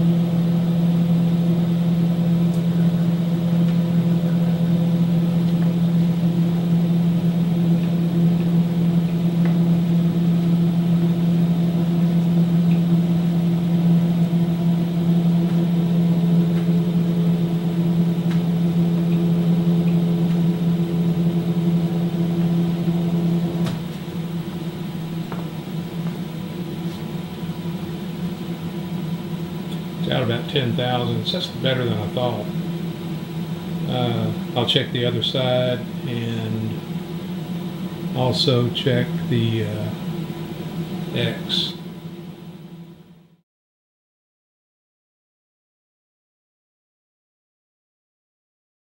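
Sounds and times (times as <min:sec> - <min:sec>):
motors humming: 0:00.0 - 0:43.1.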